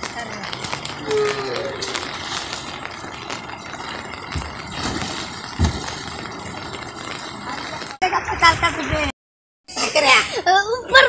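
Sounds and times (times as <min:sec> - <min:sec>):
rain hissing: 0:00.0 - 0:09.1.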